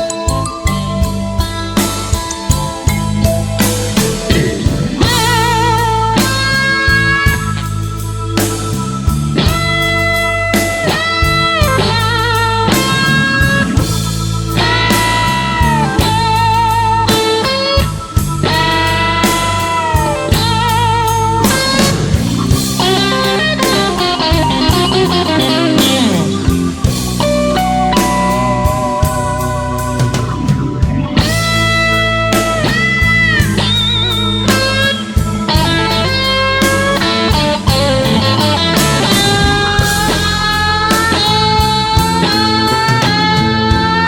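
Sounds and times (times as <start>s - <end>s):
blues band playing: 0.0s - 44.0s
lead guitar solo: 0.0s - 44.0s.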